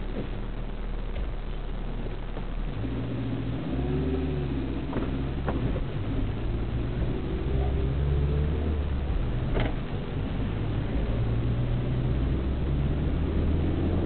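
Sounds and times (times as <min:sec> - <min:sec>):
road noise: 0:00.0 - 0:14.0
vehicle engine accelerating: 0:02.2 - 0:14.0.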